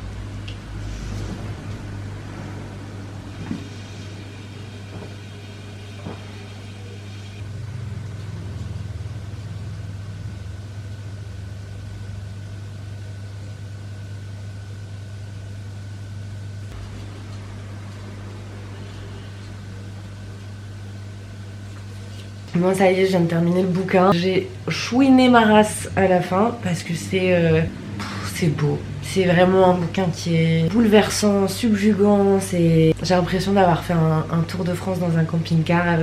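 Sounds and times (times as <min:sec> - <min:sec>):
appliance electrical hum: 0:00.0 - 0:36.0.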